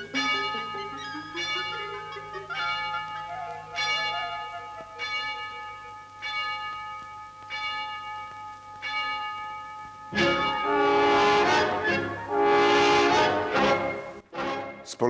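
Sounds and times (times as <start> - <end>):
tower clock bell striking: 0.0 - 12.9.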